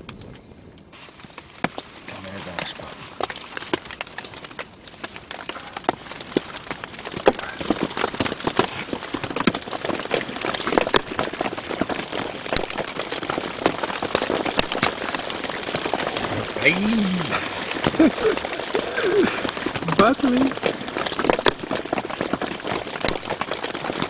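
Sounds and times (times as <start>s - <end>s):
rain pattering on tent fabric: 0.0s - 24.0s.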